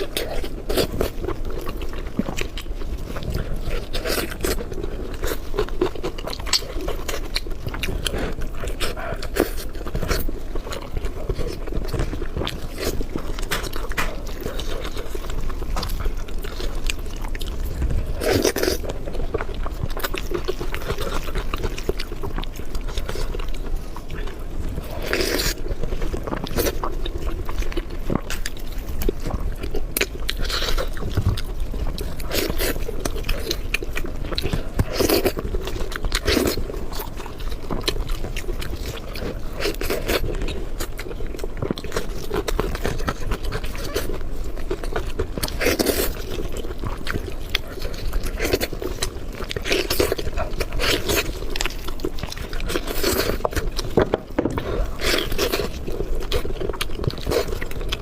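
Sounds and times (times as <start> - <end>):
chewing with wet mouth sounds: 0.0 - 58.0.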